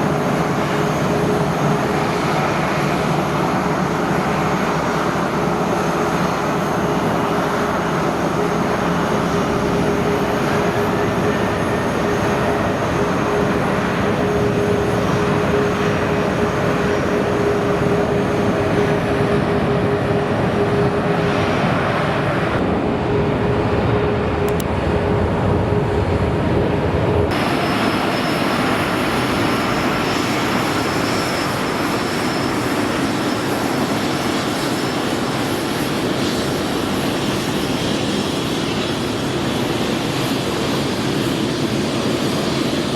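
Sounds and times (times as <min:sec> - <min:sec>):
jet engine whine: 0:00.0 - 0:42.9
jet engines roaring: 0:00.0 - 0:42.9.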